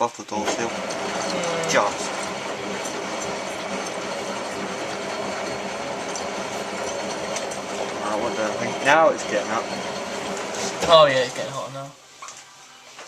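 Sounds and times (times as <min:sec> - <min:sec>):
washing machine drum tumbling: 0:00.5 - 0:11.6.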